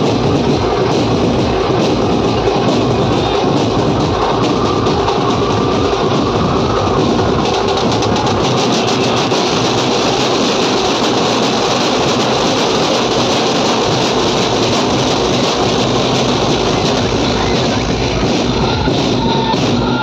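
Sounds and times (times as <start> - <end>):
large drums beaten fast: 0.0 - 20.0.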